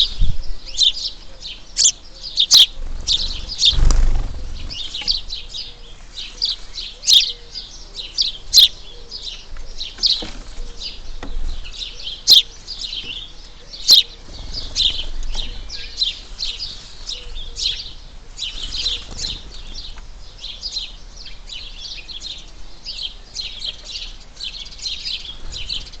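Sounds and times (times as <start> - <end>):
sharp bird calls: 0.0 - 26.0
small birds chirping: 0.0 - 26.0.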